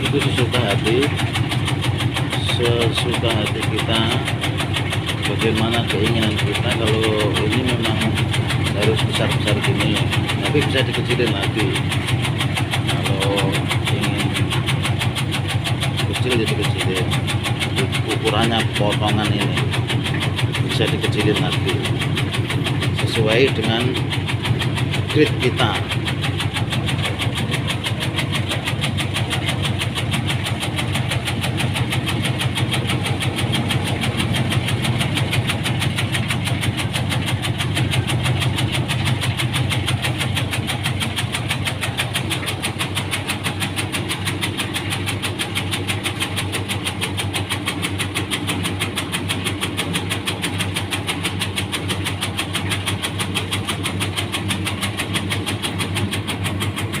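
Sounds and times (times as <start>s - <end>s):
tobacco-cutting machine running: 0.0s - 57.0s.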